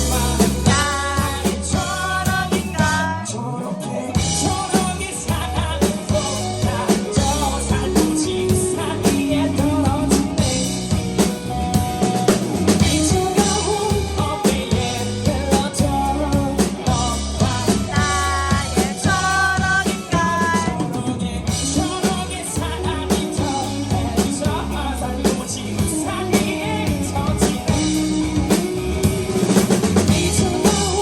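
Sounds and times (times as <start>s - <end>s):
drum kit beat: 0.0s - 3.3s, 4.2s - 31.0s
person singing: 0.0s - 11.4s, 12.7s - 31.0s
live band playing: 0.0s - 31.0s.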